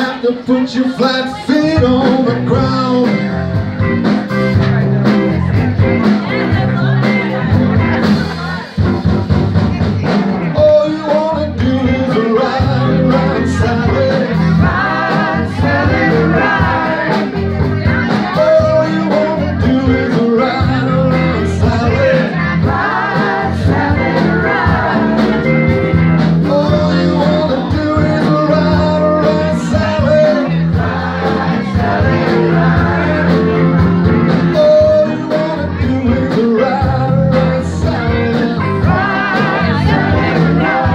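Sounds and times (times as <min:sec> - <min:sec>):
lead singer: 0:00.0 - 0:08.7, 0:09.7 - 0:40.9
blues-rock band playing: 0:00.0 - 0:40.9.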